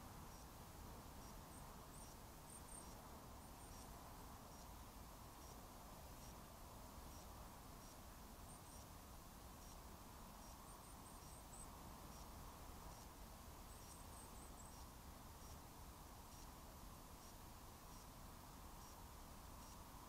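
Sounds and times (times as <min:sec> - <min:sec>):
low steady hiss: 0:00.0 - 0:20.0.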